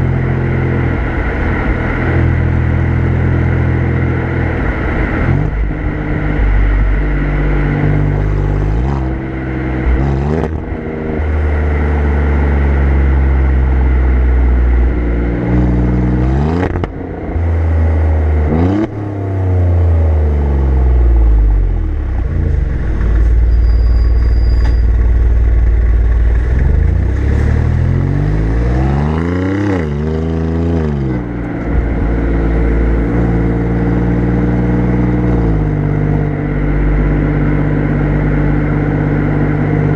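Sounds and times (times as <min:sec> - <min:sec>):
car exhaust revving: 0:00.0 - 0:39.9
road noise: 0:00.0 - 0:39.9.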